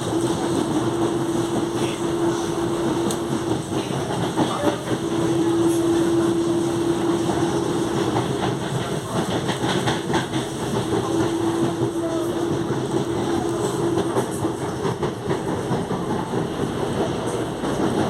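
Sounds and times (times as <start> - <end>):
wheels rumbling on track: 0.0 - 18.0.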